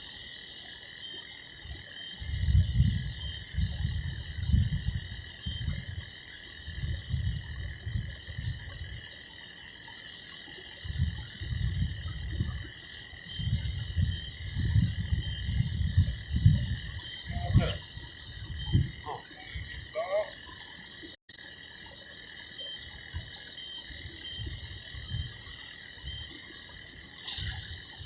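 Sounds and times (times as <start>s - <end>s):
frogs croaking: 0.0s - 28.0s.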